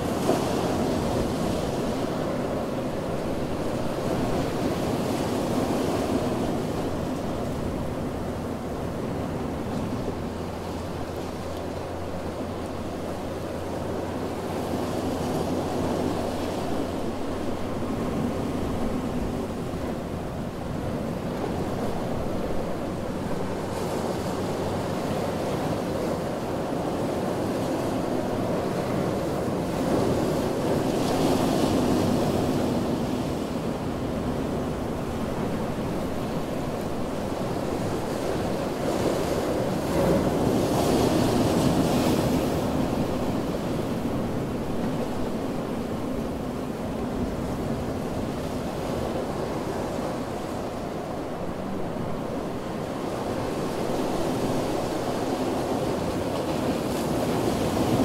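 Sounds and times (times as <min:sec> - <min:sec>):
ocean surf on beach: 0:00.0 - 0:58.0.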